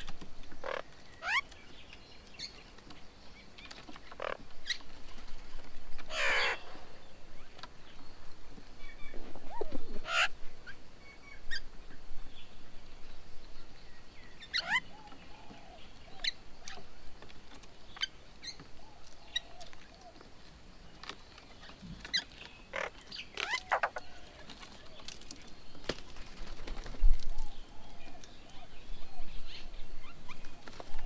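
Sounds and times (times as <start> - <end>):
birds calling and chirping: 0.0 - 31.0
soft low bird chatter: 0.0 - 31.0.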